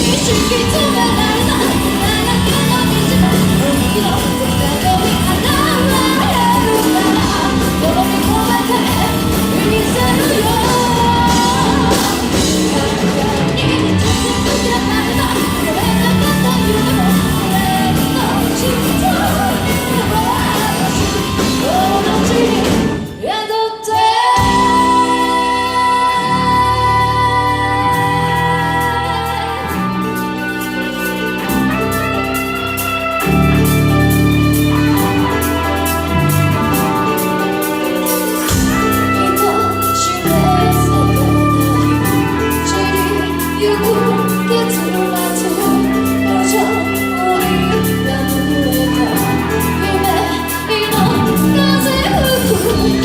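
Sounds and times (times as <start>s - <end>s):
person singing: 0.0s - 32.4s, 33.2s - 53.0s
live band playing: 0.0s - 53.0s.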